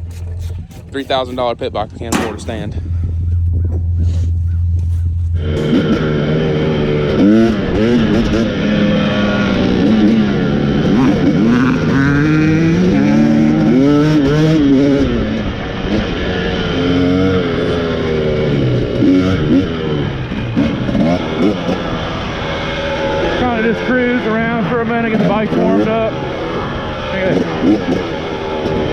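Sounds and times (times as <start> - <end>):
dirt bike engine revving: 5.4 - 28.9.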